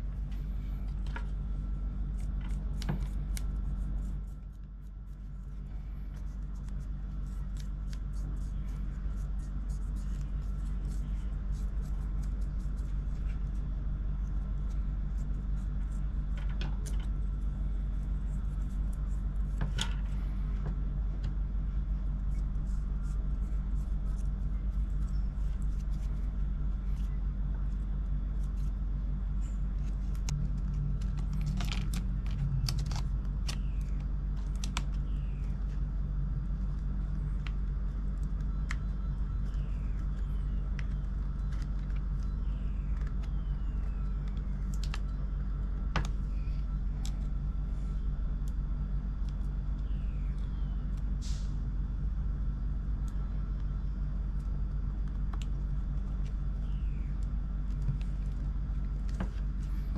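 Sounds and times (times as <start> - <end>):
low hum: 0.0 - 59.9.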